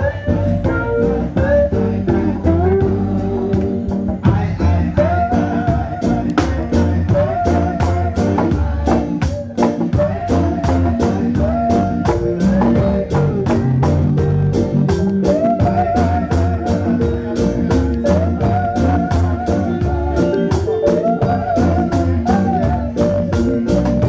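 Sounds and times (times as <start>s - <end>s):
live reggae band playing: 0.0s - 24.0s
drum and cymbal strikes: 1.4s - 24.0s.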